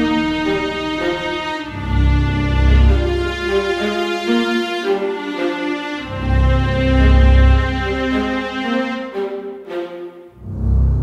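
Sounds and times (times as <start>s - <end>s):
sustained background music: 0.0s - 11.0s.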